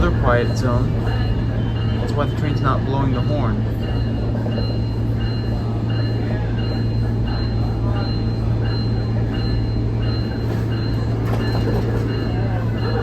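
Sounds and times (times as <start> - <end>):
train engine hum: 0.0 - 13.0
wheels rumbling on track: 0.0 - 13.0.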